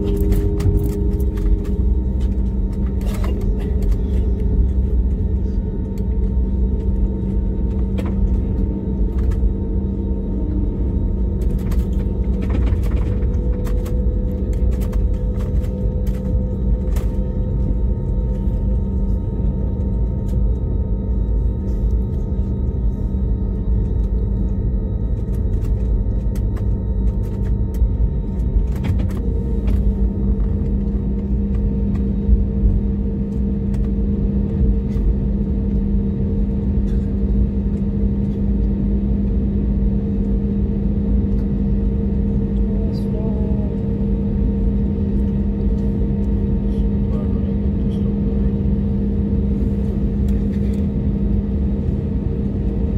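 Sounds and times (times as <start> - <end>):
airplane cabin rumble: 0.0 - 52.9
jet engine hum: 0.0 - 52.9.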